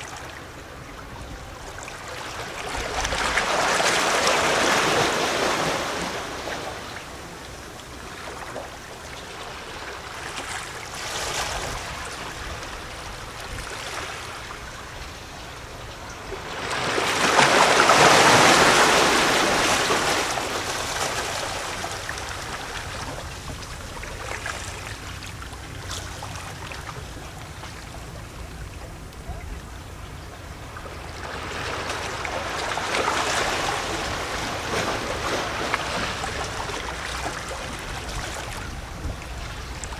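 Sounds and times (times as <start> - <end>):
waves lapping on rocky shore: 0.0 - 39.9.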